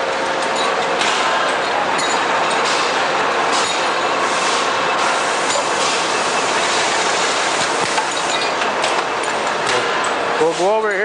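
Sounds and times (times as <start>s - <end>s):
metalworking machines clattering: 0.0s - 11.0s.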